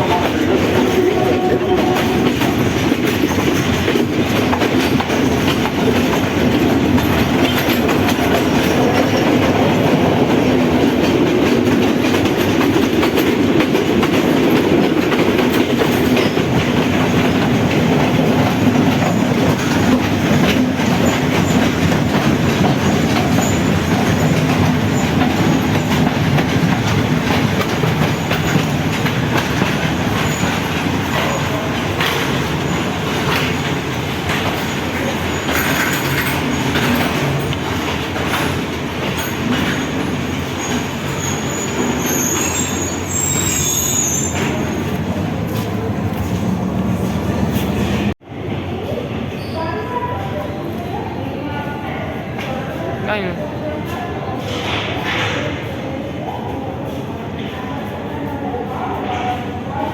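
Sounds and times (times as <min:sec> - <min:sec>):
wheels clicking over rail joints: 0:00.0 - 0:48.1
train rumbling on track: 0:00.0 - 0:59.9.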